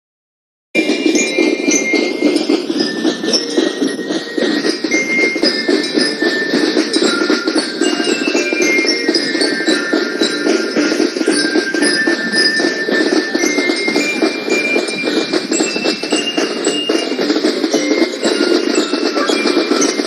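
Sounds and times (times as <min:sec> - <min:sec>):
falling bell notes: 0:00.8 - 0:20.0
music with bell-like notes: 0:00.8 - 0:20.0.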